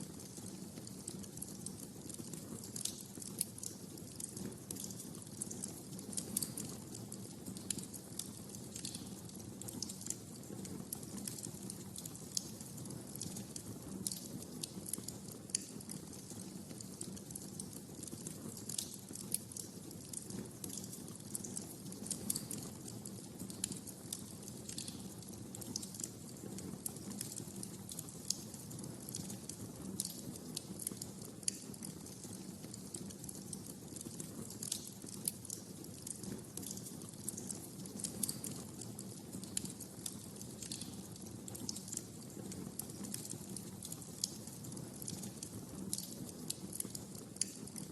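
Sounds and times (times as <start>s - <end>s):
wood fire crackling: 0.0s - 47.9s
fire popping and snapping: 0.1s - 47.9s.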